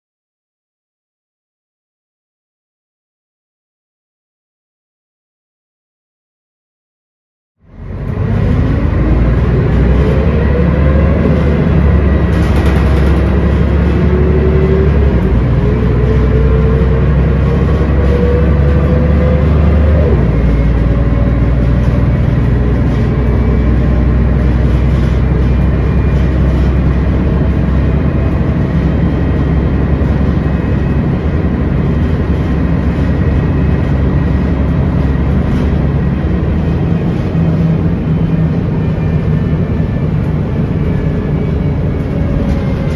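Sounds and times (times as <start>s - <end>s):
bus diesel engine accelerating: 7.6s - 42.9s.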